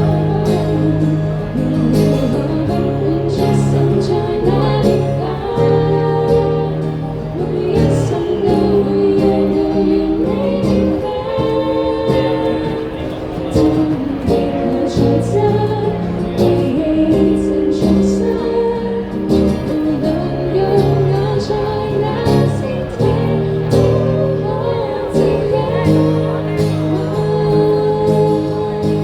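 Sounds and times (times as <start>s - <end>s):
live band with singing: 0.0s - 29.0s.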